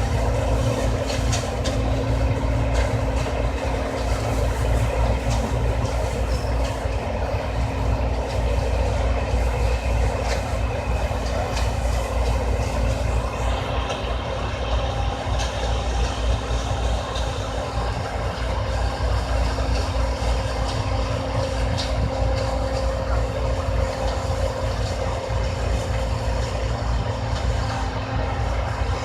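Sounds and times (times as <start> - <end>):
combine harvester engine drone: 0.0 - 29.0.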